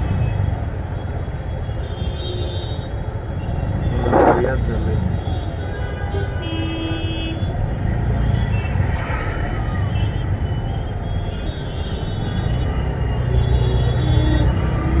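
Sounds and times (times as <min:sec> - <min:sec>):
auto rickshaw engine rumbling: 0:00.0 - 0:15.0.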